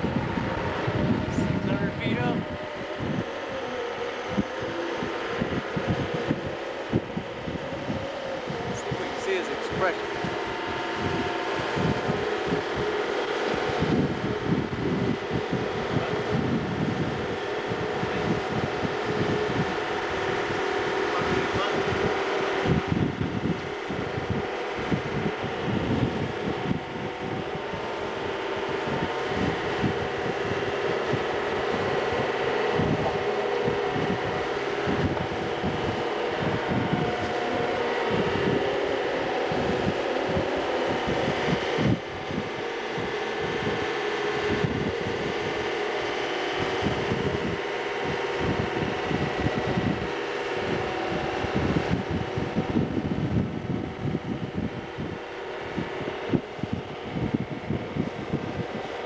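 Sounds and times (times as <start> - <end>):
boat engine drone: 0.0 - 59.0
wind buffeting microphone: 0.0 - 59.0.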